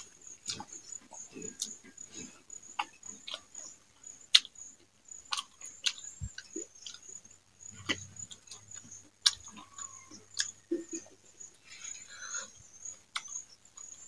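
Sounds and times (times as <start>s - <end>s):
eating and chewing mouth sounds: 0.0s - 14.0s.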